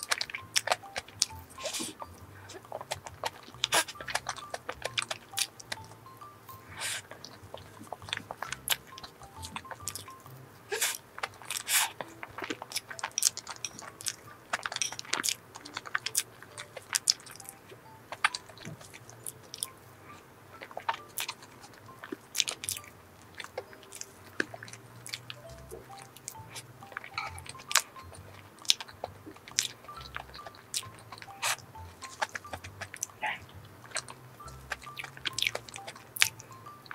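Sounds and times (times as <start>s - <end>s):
mouth smacks and clicks: 0.0s - 36.9s
person chewing: 0.0s - 36.9s.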